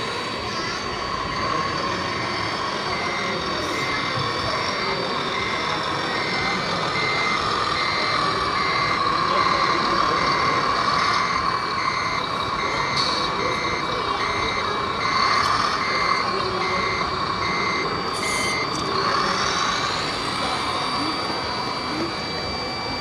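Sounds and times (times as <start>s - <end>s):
reversing beeper: 0.0s - 23.0s
toy truck motor whine: 0.0s - 23.0s.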